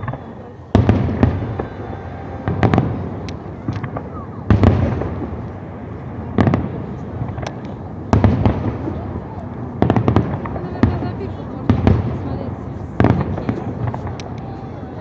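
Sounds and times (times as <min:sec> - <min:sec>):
firework booms: 0:00.0 - 0:14.4
firework cracks: 0:00.0 - 0:14.6.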